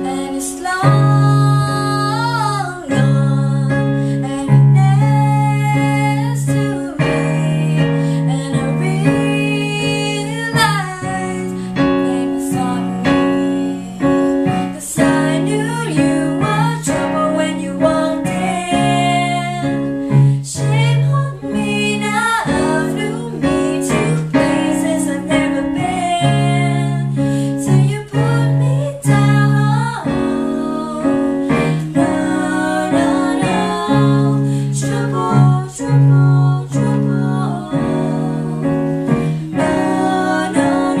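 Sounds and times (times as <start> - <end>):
digital piano chords: 0.0 - 41.0
women singing pop song: 0.0 - 41.0.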